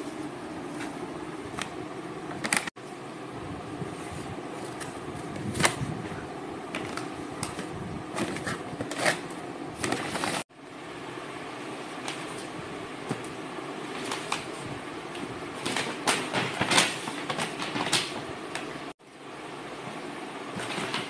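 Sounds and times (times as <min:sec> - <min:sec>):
clothes and plastic bags rustling: 0:00.0 - 0:03.0, 0:03.6 - 0:10.5, 0:12.0 - 0:19.0
steady background hum: 0:00.0 - 0:21.0.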